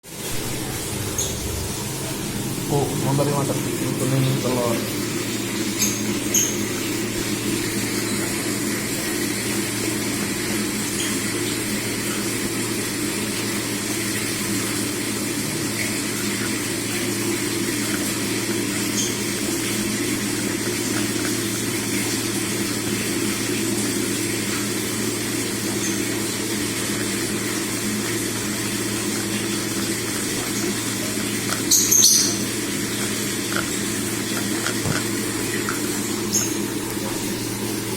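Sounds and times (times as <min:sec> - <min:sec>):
mechanical hum: 0:00.0 - 0:37.9.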